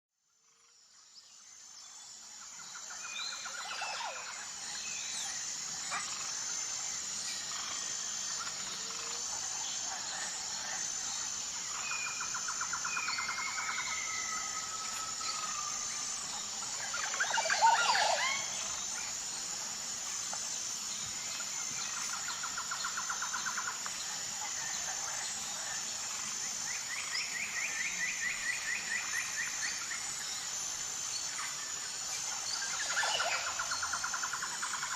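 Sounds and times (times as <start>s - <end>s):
high insect drone: 0.3s - 34.9s.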